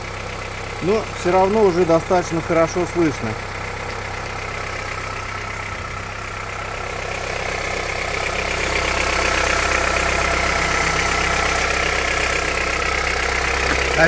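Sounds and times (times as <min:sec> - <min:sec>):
petrol engine running: 0:00.0 - 0:14.0.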